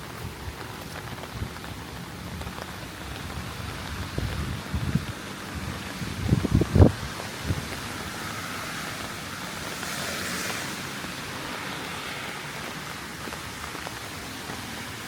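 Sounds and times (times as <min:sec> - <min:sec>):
heavy rain hissing on street: 0:00.0 - 0:15.0.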